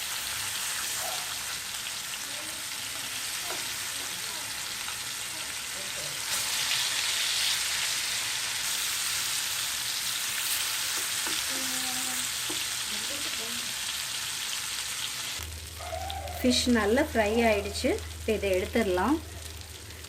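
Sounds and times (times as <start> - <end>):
fish sizzling in a pan: 0.0 - 20.0.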